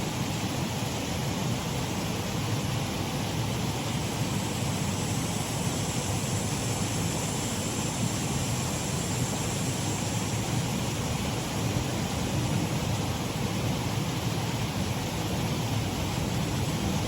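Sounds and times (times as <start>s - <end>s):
waterfall water rushing: 0.0s - 17.0s.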